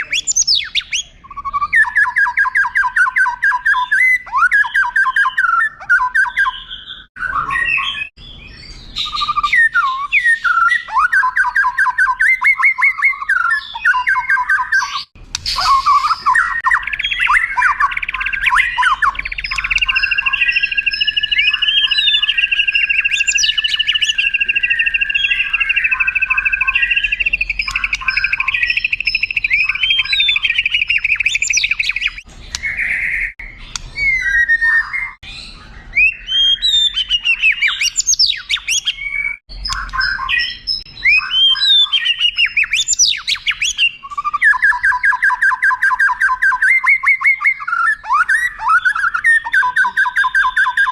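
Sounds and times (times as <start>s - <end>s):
bird singing trills and whistles: 0.0s - 50.9s.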